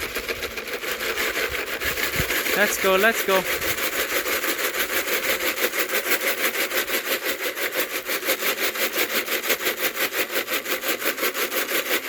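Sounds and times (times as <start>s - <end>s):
motor running with fast pulse: 0.0s - 12.0s.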